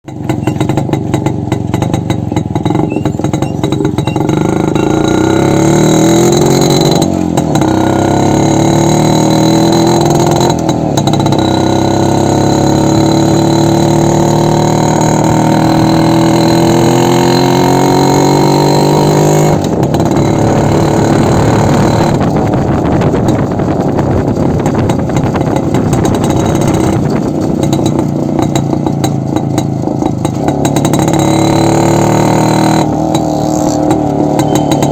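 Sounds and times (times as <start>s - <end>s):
two-stroke motorcycle engine revving: 0.0s - 34.9s.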